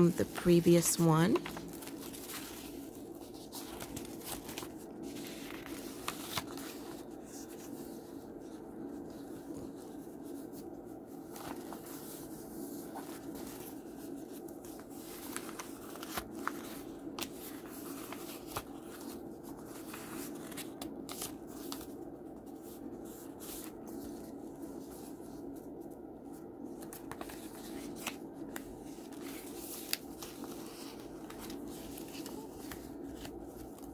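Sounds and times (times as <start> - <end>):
paper rustling: 0.0 - 33.9
steady low hum: 0.0 - 33.9.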